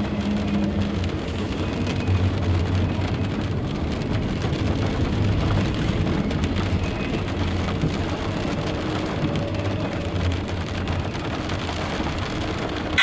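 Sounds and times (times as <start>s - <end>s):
rain on a car roof: 0.0s - 13.0s
steady low rumble: 0.0s - 13.0s.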